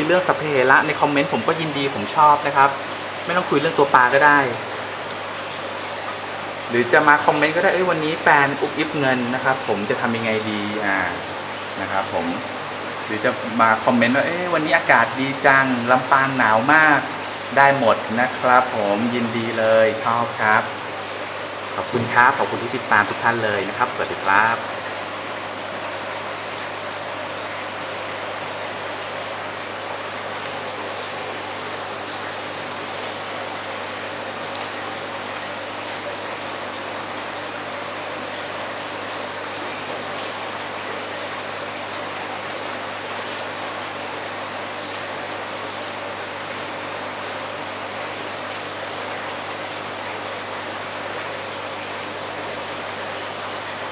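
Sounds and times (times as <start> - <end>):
aquarium water rushing: 0.0 - 53.9.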